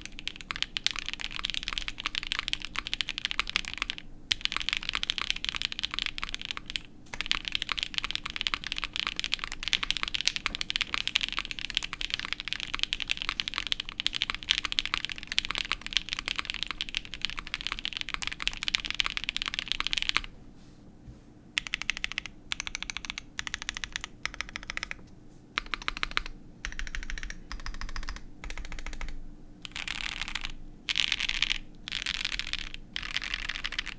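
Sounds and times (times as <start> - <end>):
mechanical keyboard typing: 0.0 - 20.3, 21.6 - 25.0, 25.6 - 33.9.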